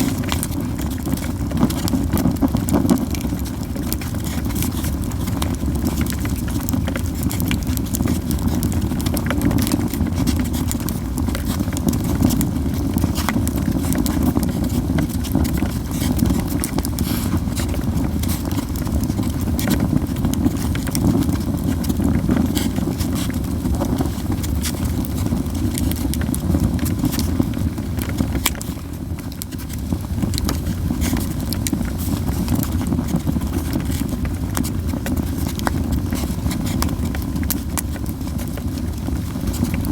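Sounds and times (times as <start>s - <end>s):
fire low rumble: 0.0s - 39.9s
fire pops and snaps: 0.0s - 39.9s.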